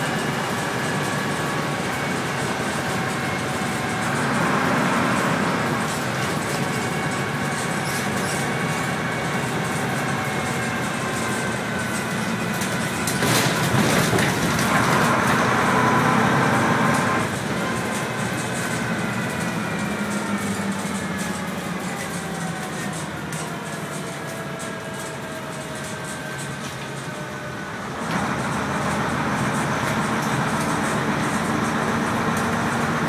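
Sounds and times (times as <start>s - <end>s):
bus engine humming: 0.0s - 33.0s.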